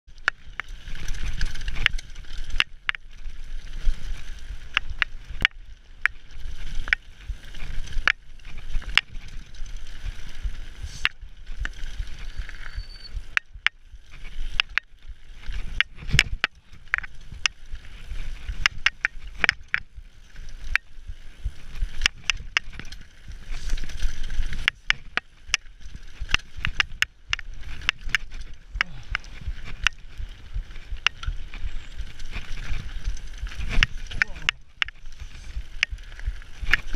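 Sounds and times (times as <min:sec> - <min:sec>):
bike clicking and rattling: 0:00.1 - 0:36.9
bike tyres rumbling over gravel: 0:00.1 - 0:36.9.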